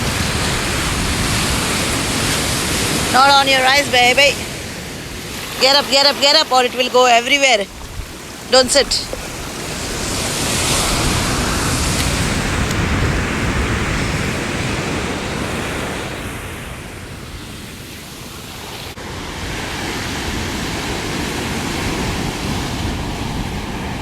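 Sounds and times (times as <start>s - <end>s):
surf washing onto beach: 0.0s - 24.0s
wind on microphone: 0.0s - 24.0s.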